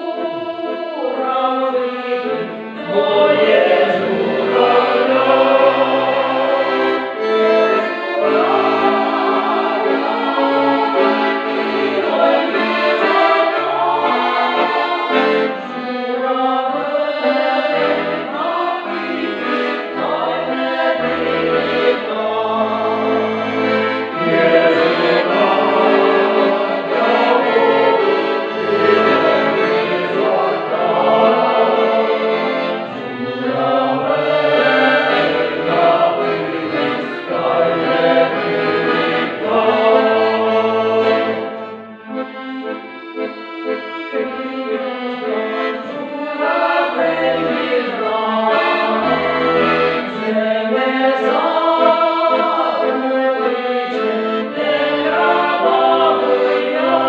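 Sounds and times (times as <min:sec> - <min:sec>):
mixed choir singing: 0:00.0 - 0:41.9, 0:45.1 - 0:57.0
accordion: 0:00.0 - 0:57.0.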